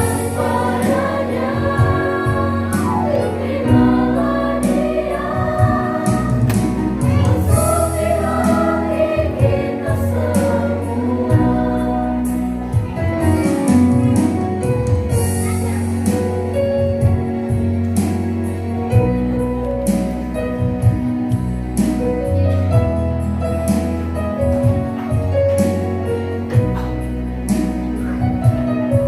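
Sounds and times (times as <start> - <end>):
instrumental gospel music: 0.0 - 29.0.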